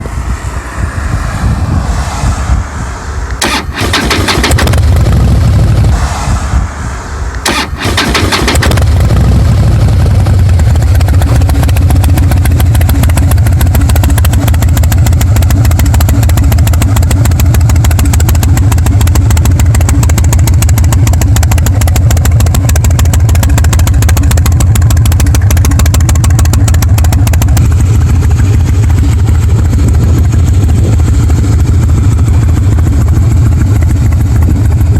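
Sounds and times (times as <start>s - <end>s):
motorcycle engine starting and idling: 3.3s - 6.7s, 7.4s - 34.9s.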